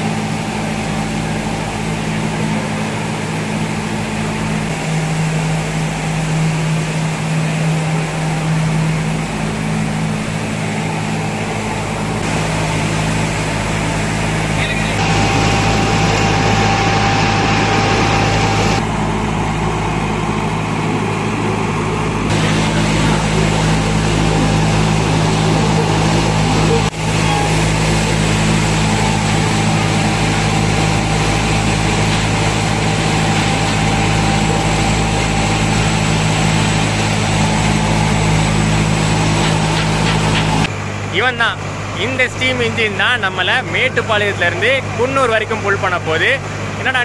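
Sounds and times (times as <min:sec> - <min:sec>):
engine idling: 0:00.0 - 0:47.0.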